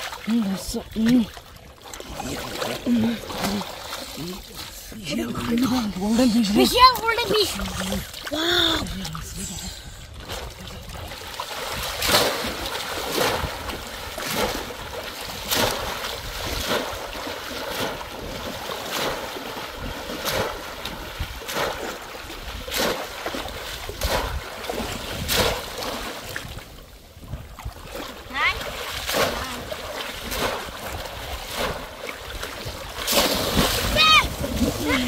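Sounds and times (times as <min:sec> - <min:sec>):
people wading through water: 0:00.0 - 0:35.0
steady wash of water: 0:00.0 - 0:35.0.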